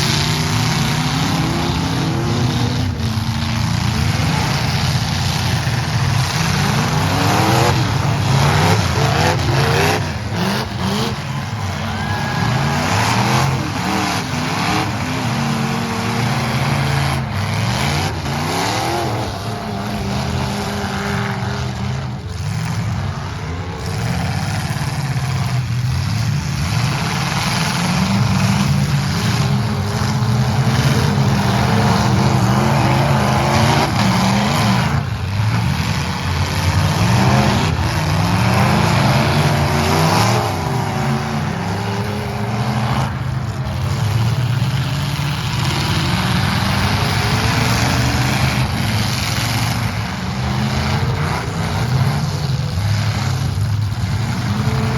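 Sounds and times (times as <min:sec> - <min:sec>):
truck engines revving: 0:00.0 - 0:54.9.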